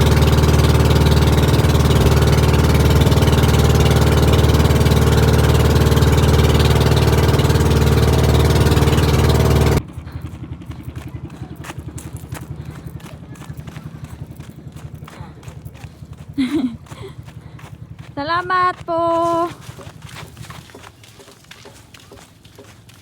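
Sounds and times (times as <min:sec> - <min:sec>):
motor engine running loudly: 0:00.0 - 0:20.9.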